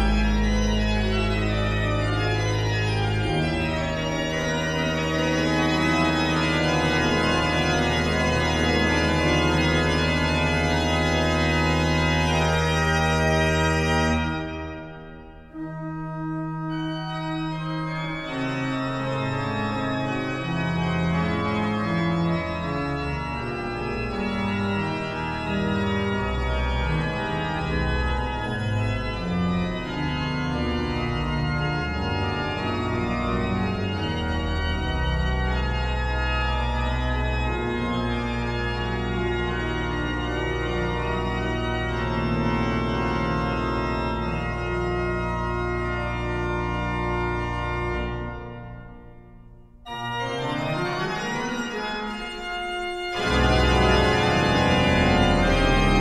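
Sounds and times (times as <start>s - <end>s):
pipe organ music: 0.0s - 56.0s.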